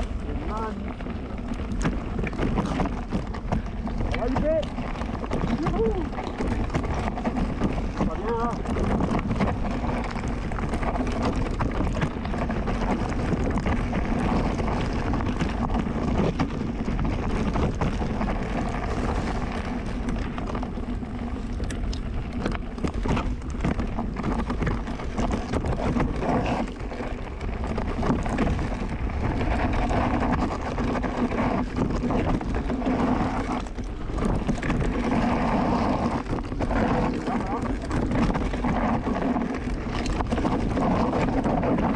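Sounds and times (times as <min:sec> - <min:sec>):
bike rattling over rough trail: 0:00.0 - 0:41.9
wind on microphone: 0:00.0 - 0:41.9.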